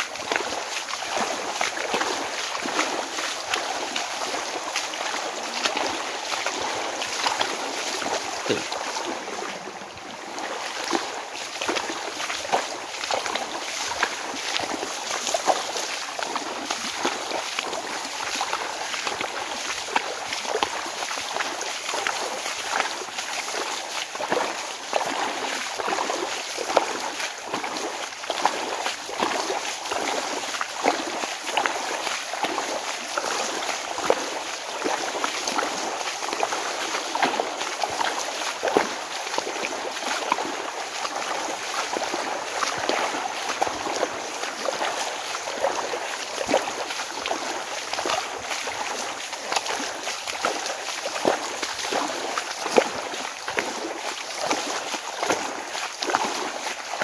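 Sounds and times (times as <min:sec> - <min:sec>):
rainwater rushing down path: 0:00.0 - 0:57.0.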